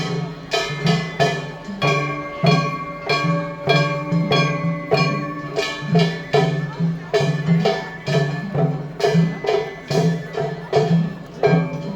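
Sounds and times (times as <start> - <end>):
drums: 0.0 - 11.9
metal gongs struck rhythmically: 0.0 - 11.9.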